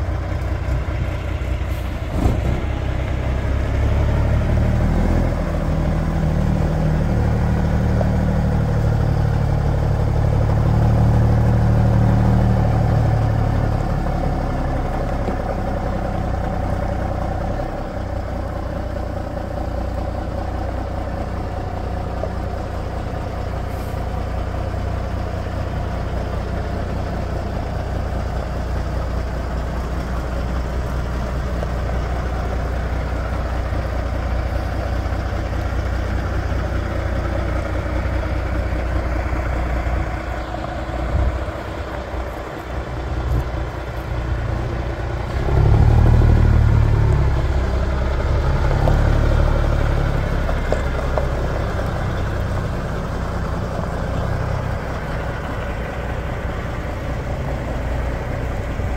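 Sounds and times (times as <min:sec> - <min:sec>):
diesel truck engine idling: 0:00.0 - 0:58.9.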